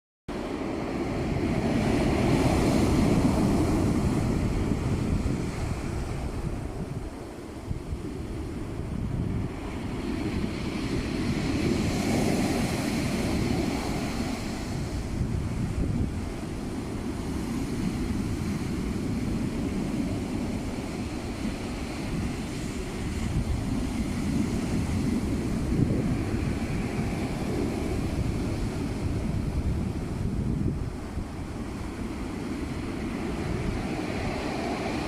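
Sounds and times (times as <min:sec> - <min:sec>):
sea surf breaking: 0:00.3 - 0:35.0
wind rumbling on microphone: 0:00.3 - 0:35.0.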